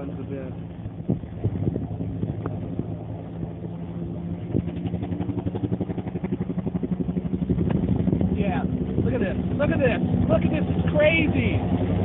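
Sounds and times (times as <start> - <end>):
helicopter passing over: 0.0 - 12.0.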